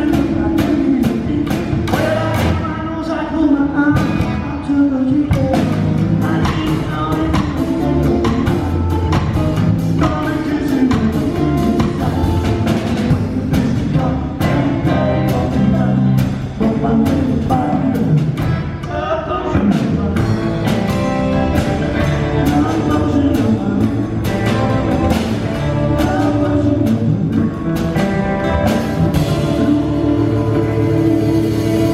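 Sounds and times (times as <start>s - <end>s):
drum kit beat: 0.0s - 2.9s, 5.3s - 31.9s
person singing: 0.0s - 31.9s
rock band playing: 0.0s - 31.9s.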